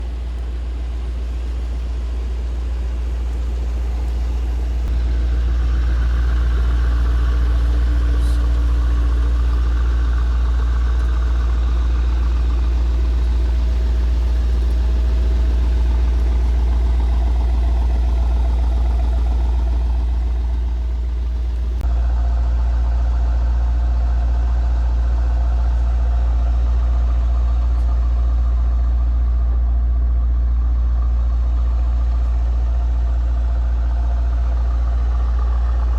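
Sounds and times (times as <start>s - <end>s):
car exhaust idling: 0.0s - 35.9s.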